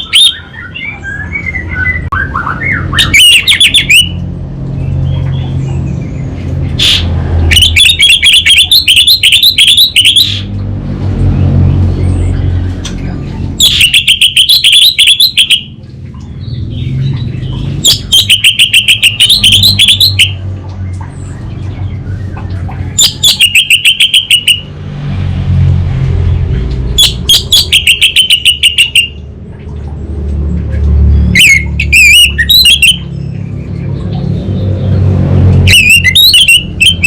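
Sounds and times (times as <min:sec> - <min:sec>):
bird singing trilling phrases: 0:00.0 - 0:25.3, 0:26.2 - 0:30.0, 0:30.6 - 0:37.0.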